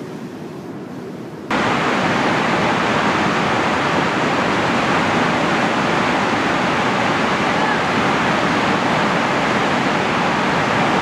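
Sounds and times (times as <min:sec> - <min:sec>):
waterfall rushing: 0:01.5 - 0:11.0.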